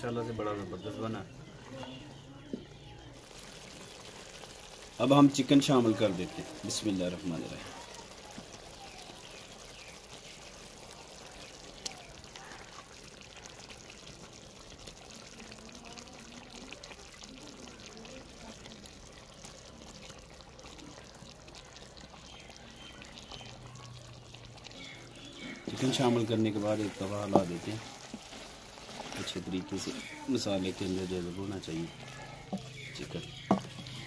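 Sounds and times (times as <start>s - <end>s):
chicken sizzling in a pot: 0.0s - 34.0s.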